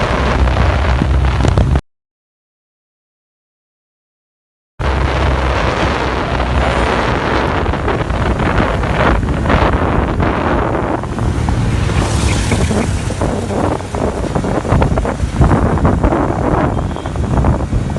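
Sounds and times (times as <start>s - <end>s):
wind buffeting on microphone: 0.0s - 1.8s, 4.8s - 17.9s.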